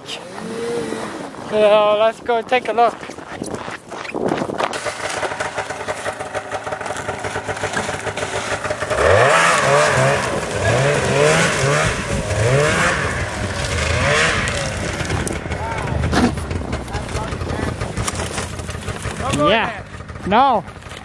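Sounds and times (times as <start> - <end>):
snowmobile engine revving: 0.0 - 3.2, 4.6 - 21.0.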